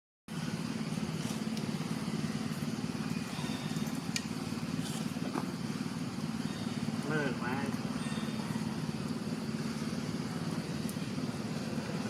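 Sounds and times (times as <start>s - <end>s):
motor engine humming: 0.3s - 12.0s.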